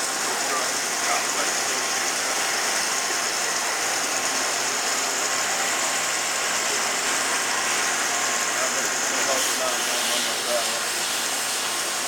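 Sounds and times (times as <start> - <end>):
machine running with steady hiss: 0.0 - 12.0.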